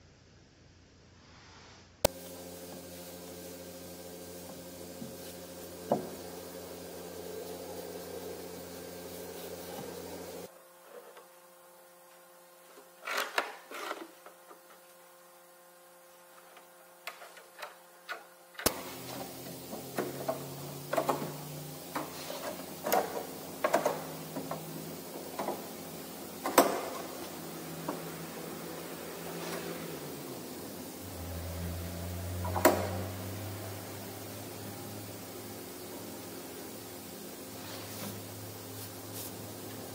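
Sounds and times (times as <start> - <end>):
workshop hum: 2.0 - 39.9.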